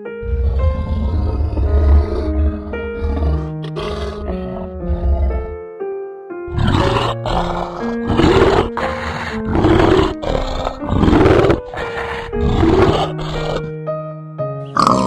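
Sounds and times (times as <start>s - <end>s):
big cat roaring: 0.0s - 5.6s, 6.5s - 13.7s
music with long held notes: 0.0s - 14.8s.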